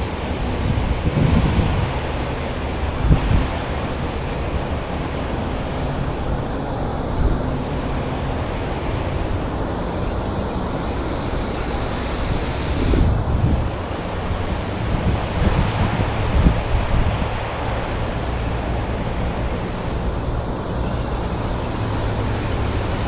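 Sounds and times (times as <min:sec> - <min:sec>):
low rumbles of gusts: 0:00.0 - 0:23.0
wind on microphone: 0:00.0 - 0:23.0.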